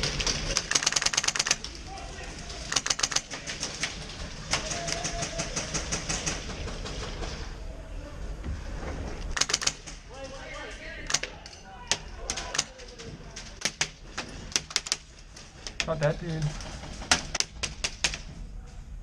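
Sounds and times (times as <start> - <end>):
airsoft guns firing: 0.0 - 7.5, 9.3 - 10.2, 11.0 - 16.0, 16.6 - 18.4
players' voices: 0.0 - 17.5.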